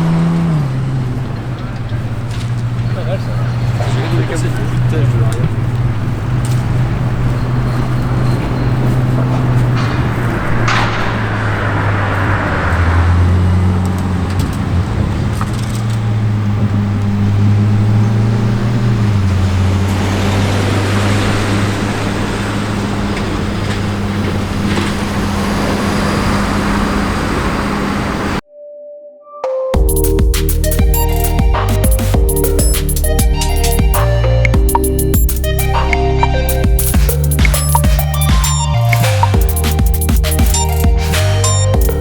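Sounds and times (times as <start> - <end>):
car engine running: 0.0 - 28.4, 29.8 - 42.0
passing traffic road noise: 0.0 - 28.4, 29.8 - 42.0.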